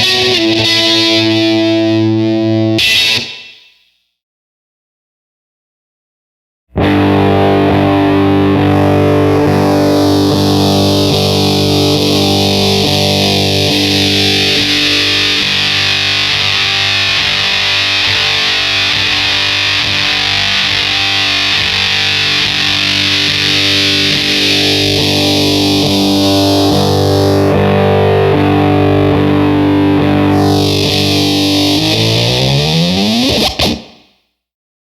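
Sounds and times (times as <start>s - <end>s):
fuzzy electric guitar chord: 0.0s - 3.5s, 6.8s - 34.0s.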